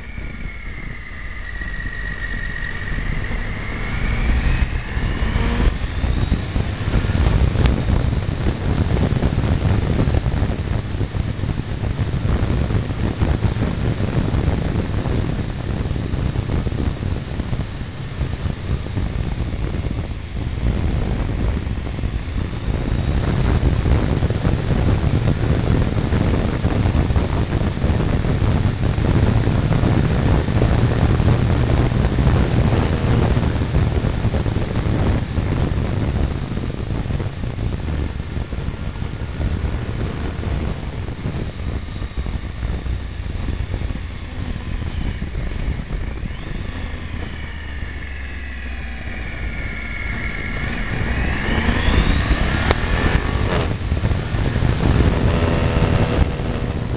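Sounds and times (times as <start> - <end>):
wind rush on microphone: 0.0 - 56.9
motorcycle engine running: 2.2 - 56.9.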